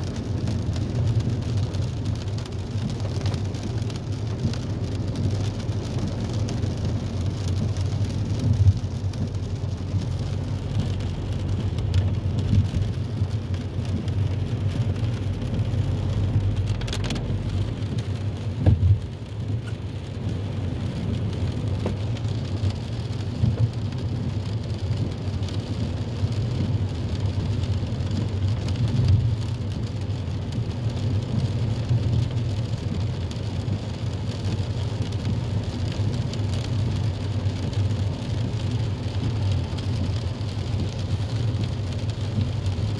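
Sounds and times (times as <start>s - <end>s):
car driving on wet road: 0.0s - 42.9s
rain pattering on windscreen: 0.0s - 42.9s.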